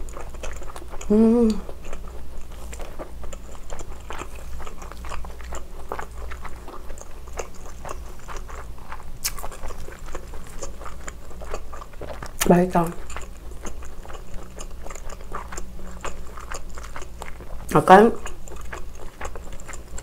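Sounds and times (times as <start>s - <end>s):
chewing and wet mouth sounds: 0.0s - 20.0s.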